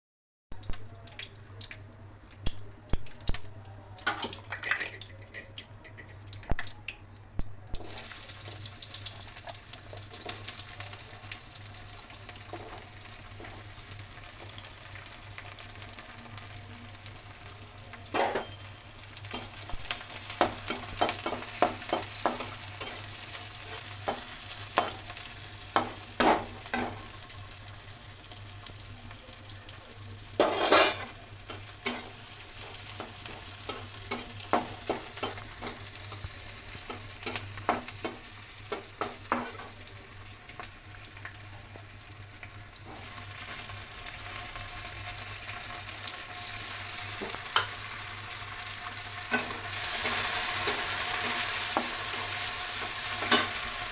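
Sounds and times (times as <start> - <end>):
onions sizzling in hot oil: 7.7 - 53.9.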